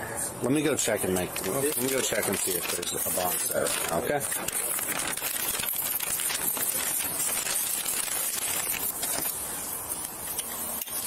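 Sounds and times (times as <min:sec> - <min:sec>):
steady hiss: 0:00.8 - 0:11.0.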